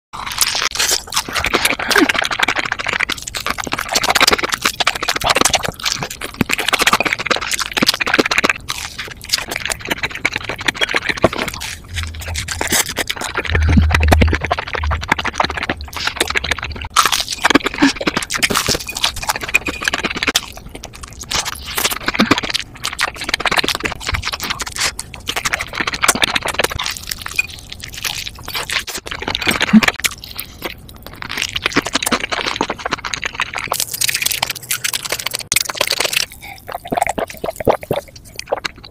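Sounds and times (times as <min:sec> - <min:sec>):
crunchy fried chicken chewing: 0:00.2 - 0:38.9.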